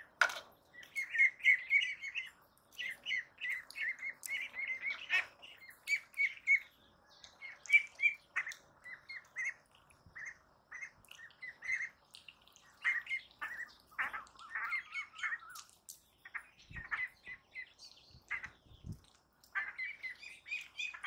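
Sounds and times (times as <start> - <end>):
ducklings peeping: 0.6 - 21.0.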